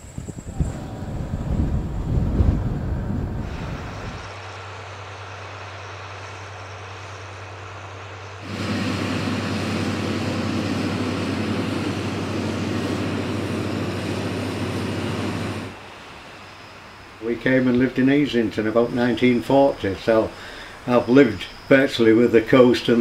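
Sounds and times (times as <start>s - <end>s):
tractor engines running: 0.0s - 23.0s.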